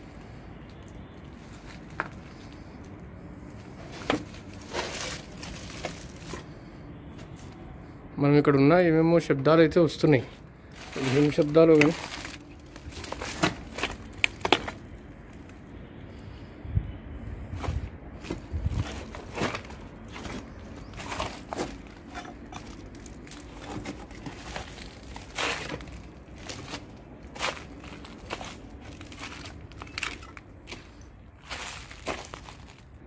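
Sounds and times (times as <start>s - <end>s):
footsteps crunching over rubble: 0.2s - 7.6s, 10.3s - 15.7s, 17.5s - 33.0s.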